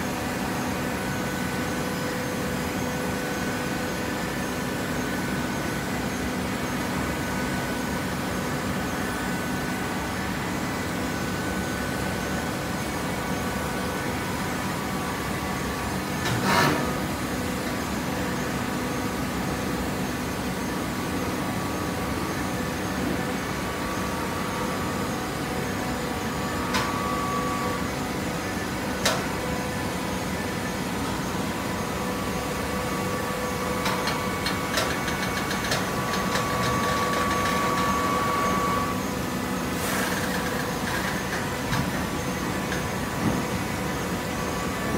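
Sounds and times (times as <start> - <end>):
machine hum with held tones: 0.0 - 44.9.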